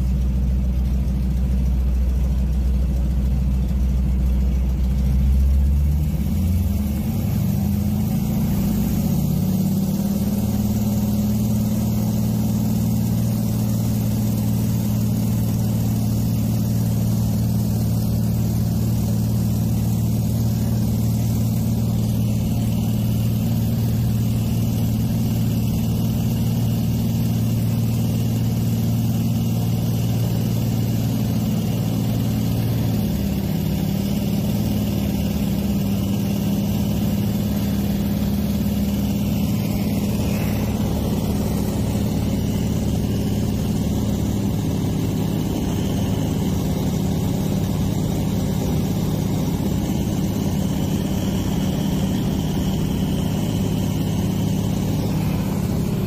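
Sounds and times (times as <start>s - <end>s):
plane engine and propeller drone: 0.0s - 56.0s.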